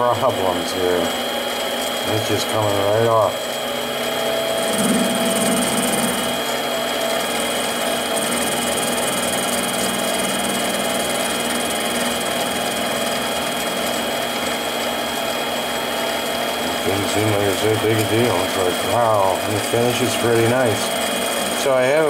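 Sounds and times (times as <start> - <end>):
lathe whining while cutting metal: 0.0 - 22.0.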